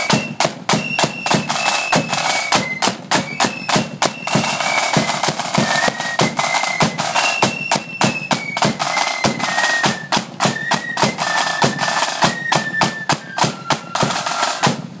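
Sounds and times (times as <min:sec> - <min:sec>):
fast flute melody: 0:00.0 - 0:14.7
snare drums: 0:00.0 - 0:15.0.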